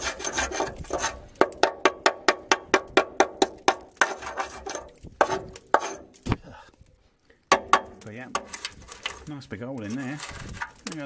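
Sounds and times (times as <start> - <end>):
tool scraping rusted metal: 0.0 - 6.3, 7.5 - 11.0.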